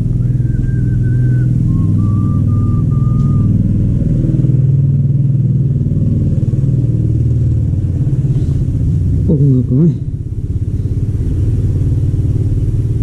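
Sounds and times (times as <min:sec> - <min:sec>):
machine rumbling: 0:00.0 - 0:13.0.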